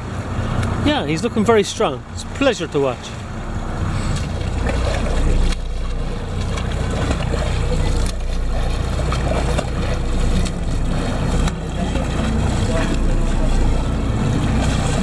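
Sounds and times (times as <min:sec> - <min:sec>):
boat engine humming: 0:00.0 - 0:15.0
choppy water washing: 0:00.0 - 0:15.0.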